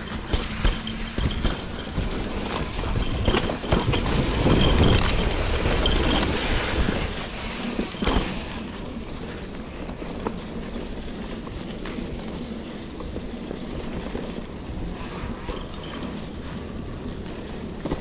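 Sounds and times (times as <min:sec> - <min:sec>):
bike knocking and rattling: 0:00.0 - 0:18.0
tyre and wind rush: 0:00.0 - 0:18.0.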